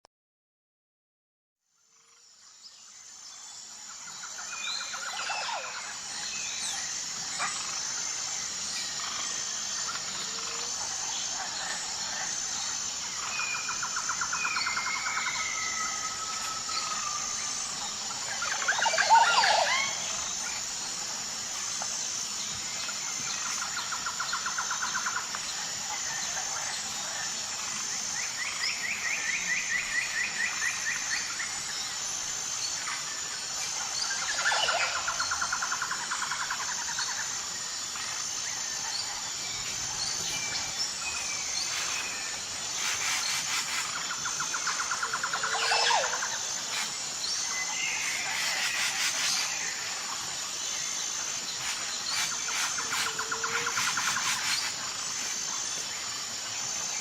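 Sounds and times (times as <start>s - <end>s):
steady high-pitched whine: 1.6s - 57.0s
birds calling and trilling: 2.9s - 57.0s.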